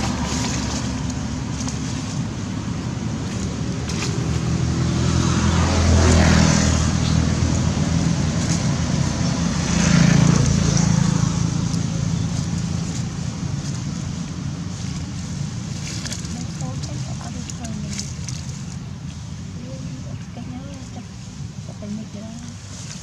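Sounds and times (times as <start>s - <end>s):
vehicles passing by: 0.0s - 23.0s.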